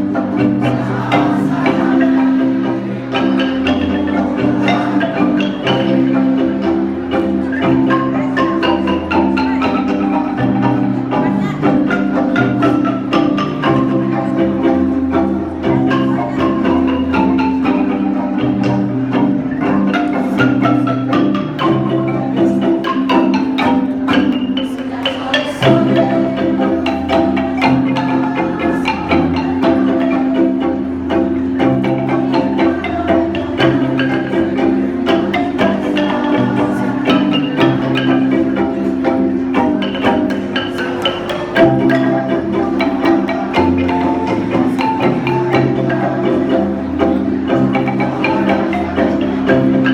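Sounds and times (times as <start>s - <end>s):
wooden xylophone bars struck: 0.0s - 49.9s.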